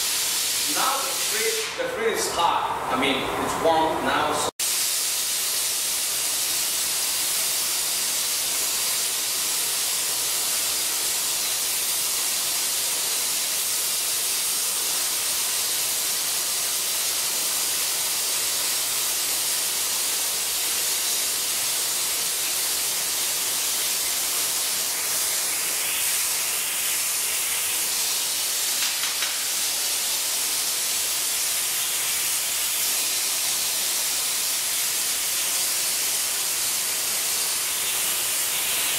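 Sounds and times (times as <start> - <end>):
burner flame hissing: 0.0 - 38.9.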